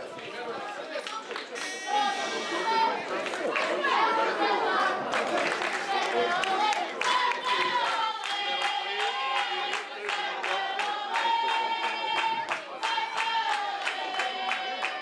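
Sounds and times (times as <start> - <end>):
crowd clapping a beat: 0.9 - 1.7, 3.0 - 4.1, 4.7 - 15.0
crowd chanting: 1.6 - 15.0.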